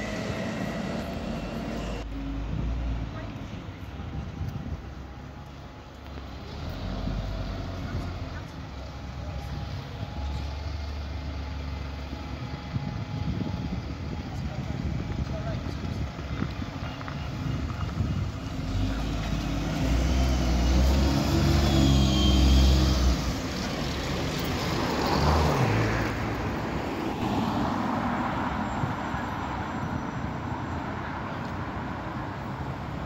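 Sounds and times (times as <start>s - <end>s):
bus engine driving past: 0.0s - 4.3s, 4.9s - 15.0s, 16.7s - 33.0s
street traffic: 0.0s - 33.0s.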